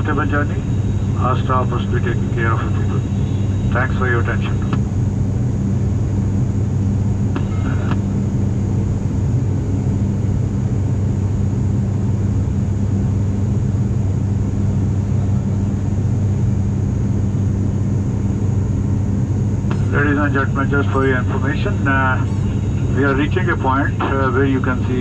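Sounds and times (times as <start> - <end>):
turboprop engine drone: 0.0 - 25.0.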